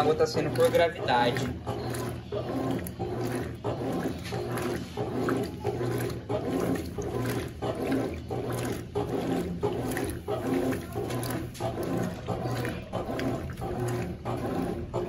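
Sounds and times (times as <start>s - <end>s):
washing machine motor hum: 0.0s - 15.0s
water churning: 0.0s - 15.0s.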